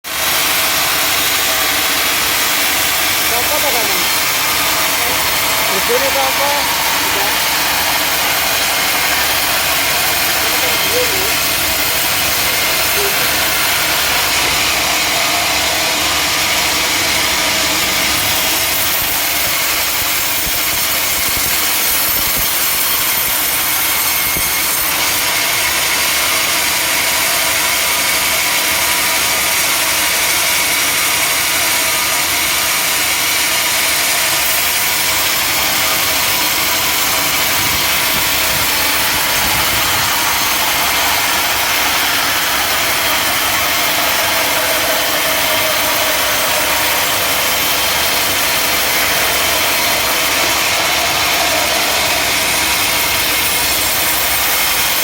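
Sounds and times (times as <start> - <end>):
saw cutting through log: 0.0 - 55.0.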